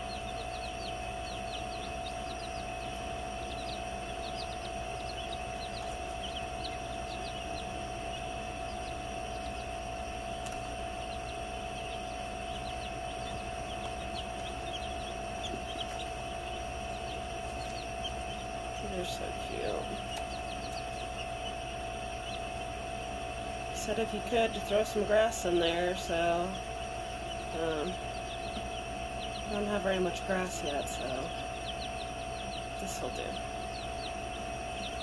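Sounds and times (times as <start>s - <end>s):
chicks peeping: 0.0s - 35.0s
steady electrical hum: 0.0s - 35.0s.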